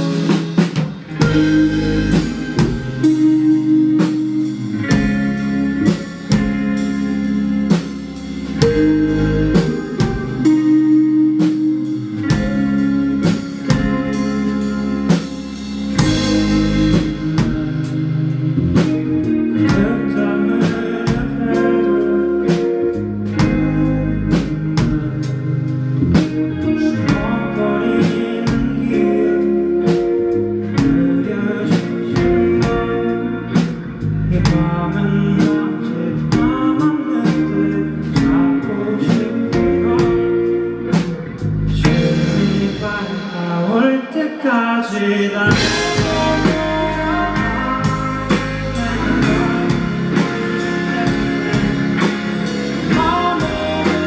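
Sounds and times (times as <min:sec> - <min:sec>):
person singing: 0:00.0 - 0:07.0, 0:08.5 - 0:54.0
live rock band playing: 0:00.0 - 0:54.0.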